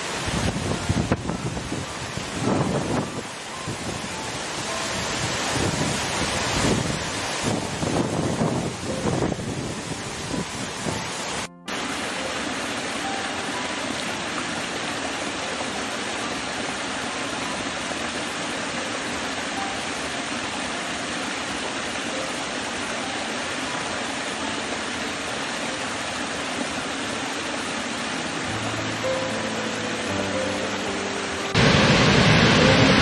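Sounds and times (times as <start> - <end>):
stream cascading over rocks: 0.0 - 33.0.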